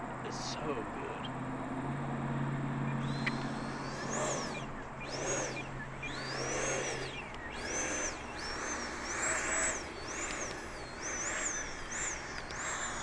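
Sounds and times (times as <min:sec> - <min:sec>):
rc jet fan whine: 0:00.0 - 0:13.0
steady low hum: 0:00.0 - 0:13.0.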